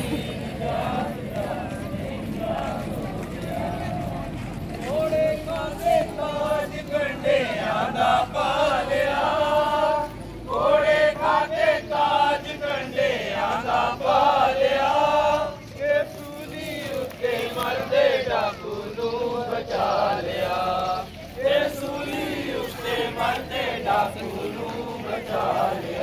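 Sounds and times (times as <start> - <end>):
group singing a hymn: 0.0 - 26.0.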